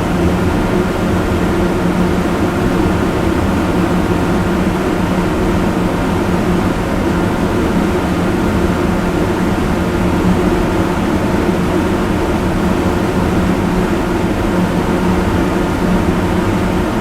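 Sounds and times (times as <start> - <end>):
electric fan rushing air: 0.0 - 17.0.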